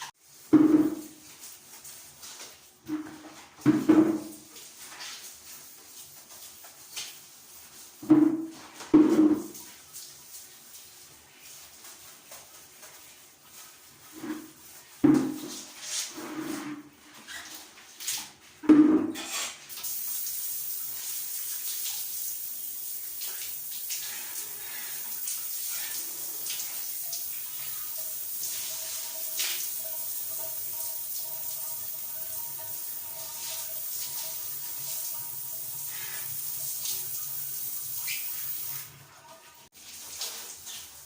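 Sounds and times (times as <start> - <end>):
water running from a tap: 0.0 - 15.8, 19.2 - 41.0.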